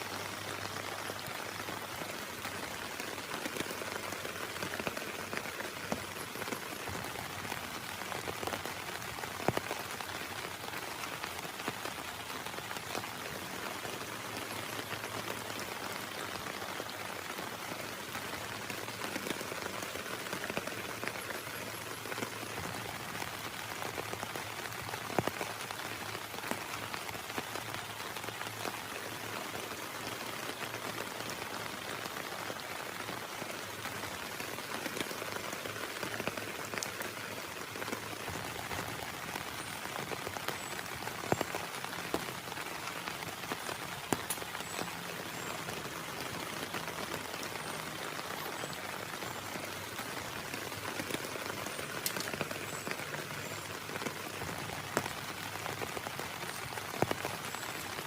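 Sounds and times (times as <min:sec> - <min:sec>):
heavy rain hissing: 0:00.0 - 0:58.0
raindrops tapping: 0:00.0 - 0:58.0.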